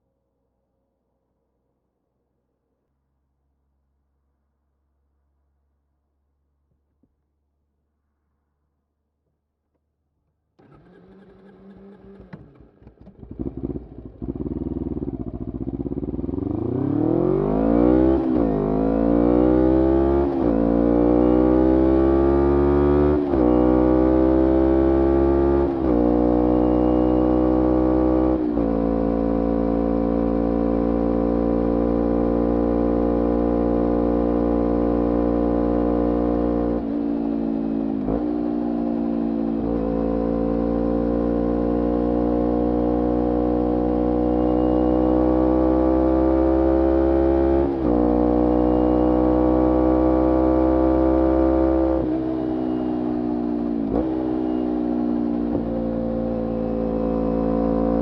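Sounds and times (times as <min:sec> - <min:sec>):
motorcycle engine accelerating: 0:10.6 - 0:58.0.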